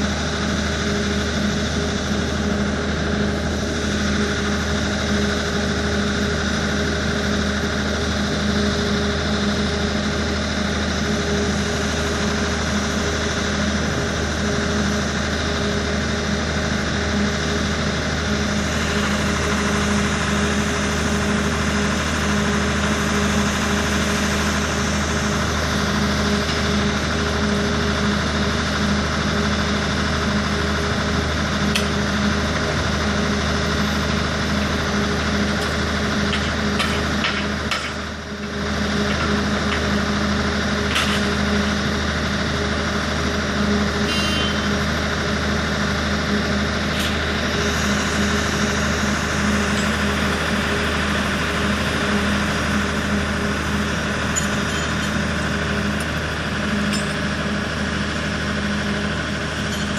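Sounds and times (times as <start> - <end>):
machine engine humming: 0.0 - 59.9.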